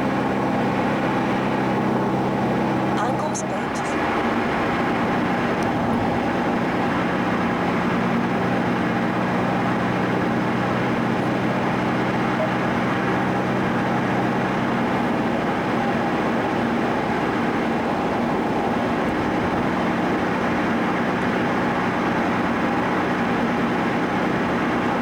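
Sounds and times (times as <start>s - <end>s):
car engine drone: 0.0s - 25.0s
road noise inside car: 0.0s - 25.0s.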